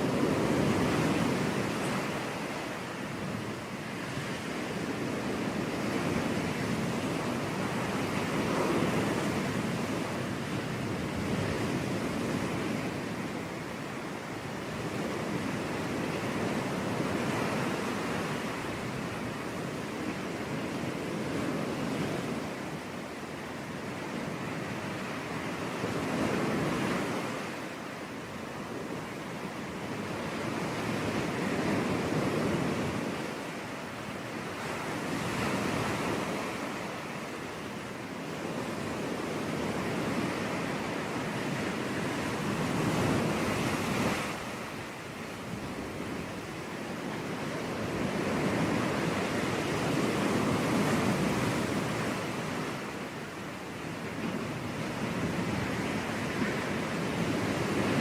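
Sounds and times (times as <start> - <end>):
sea waves breaking on a beach: 0.0 - 58.0.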